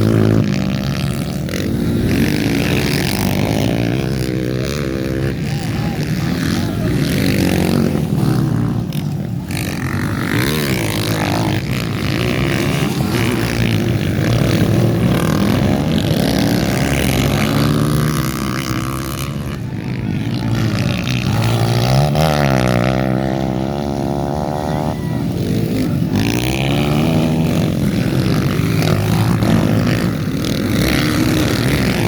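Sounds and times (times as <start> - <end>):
racing motorcycle engines revving: 0.0 - 32.0.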